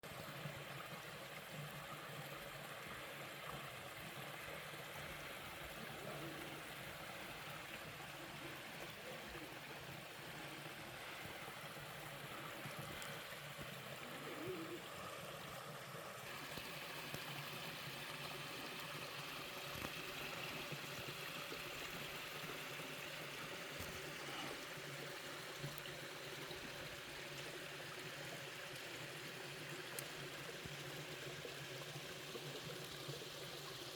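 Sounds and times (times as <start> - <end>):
water running over rocks: 0.0 - 33.9.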